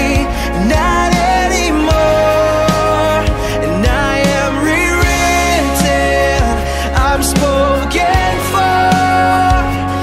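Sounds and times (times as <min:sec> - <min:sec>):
worship song with full band: 0:00.0 - 0:10.0.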